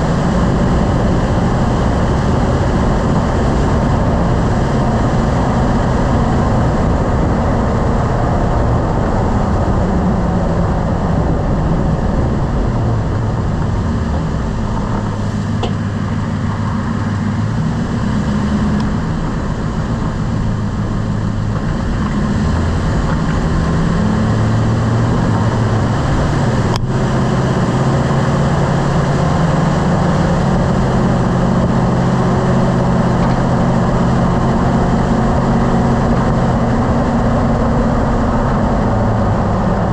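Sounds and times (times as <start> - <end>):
road noise: 0.0 - 39.9
truck engine: 0.0 - 39.9.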